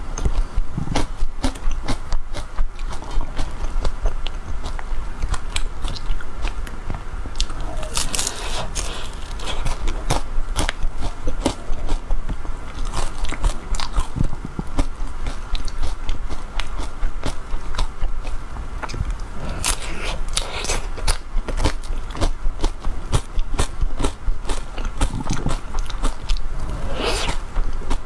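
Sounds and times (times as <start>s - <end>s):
eating ice cream mouth sounds: 0.2s - 28.0s.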